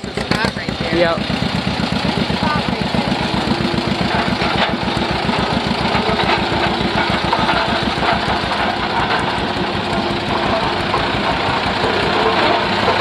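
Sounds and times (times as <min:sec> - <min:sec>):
tractor engine pulling hard: 0:00.0 - 0:13.0.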